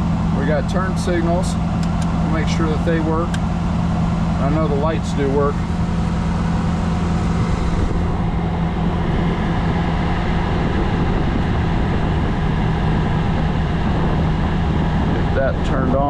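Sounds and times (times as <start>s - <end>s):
air-conditioning blower: 0.0s - 16.0s
car engine idling: 0.0s - 16.0s.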